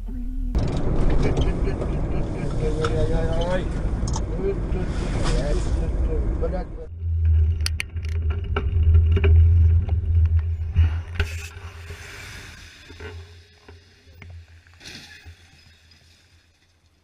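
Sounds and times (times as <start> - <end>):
car rumble: 0.0 - 16.0.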